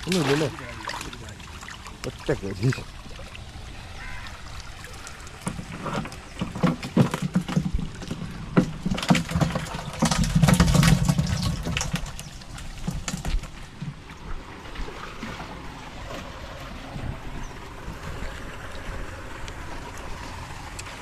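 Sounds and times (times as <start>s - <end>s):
water and fish splashing: 0.0s - 21.0s.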